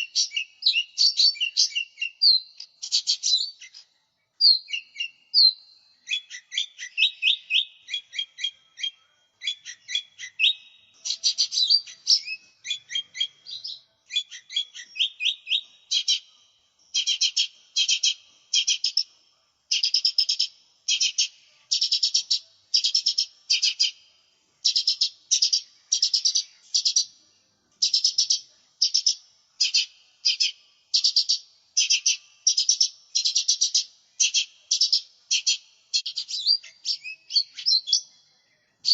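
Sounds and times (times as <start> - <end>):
bird singing warbles and chatter: 0.0 - 38.9.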